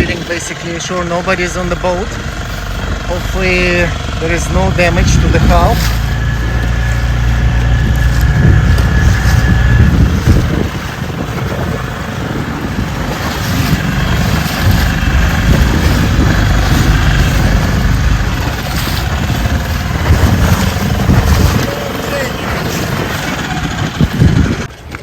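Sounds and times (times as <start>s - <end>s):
boat motor running: 0.0s - 25.0s
wind on microphone: 0.0s - 25.0s.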